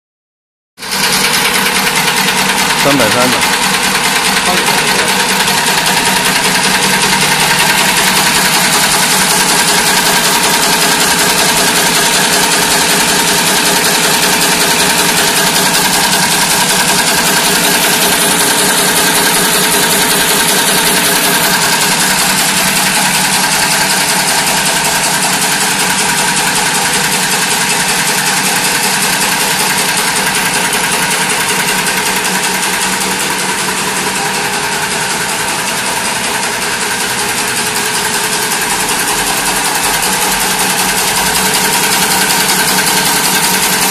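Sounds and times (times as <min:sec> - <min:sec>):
machine mechanical clatter: 0:00.8 - 0:43.9.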